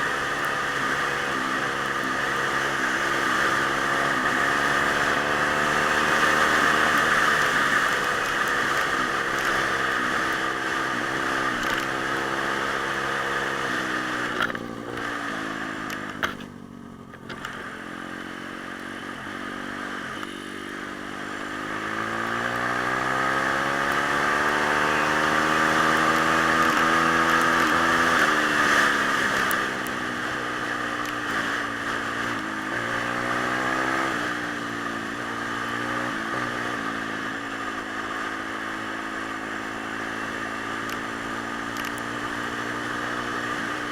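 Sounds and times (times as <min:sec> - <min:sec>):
pit bike engine revving: 0:00.0 - 0:43.9.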